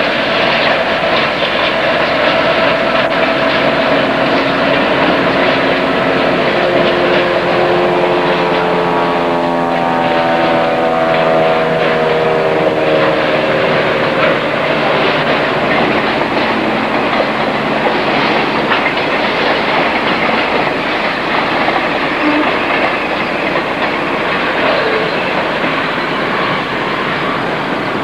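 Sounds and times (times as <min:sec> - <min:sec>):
engine drone: 0:00.0 - 0:28.0
train wheels rumbling on rails: 0:00.0 - 0:28.0.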